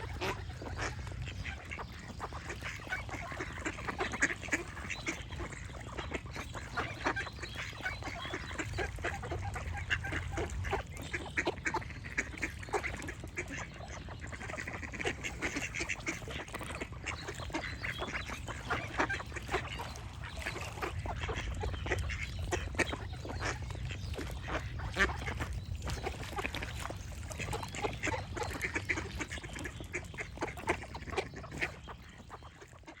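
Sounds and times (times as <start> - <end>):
ducks quacking: 0.0 - 33.0.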